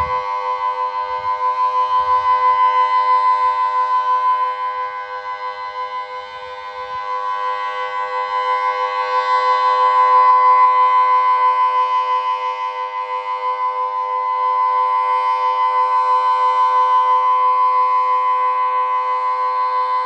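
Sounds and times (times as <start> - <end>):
distant steady siren tone: 0.0 - 20.0.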